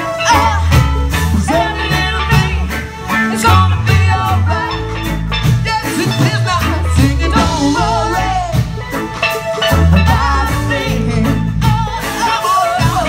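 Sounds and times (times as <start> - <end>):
live reggae band playing: 0.0 - 13.0.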